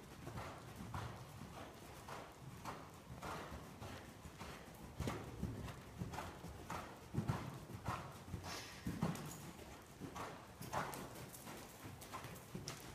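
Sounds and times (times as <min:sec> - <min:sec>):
horse hoofbeats on sand: 0:00.0 - 0:12.9.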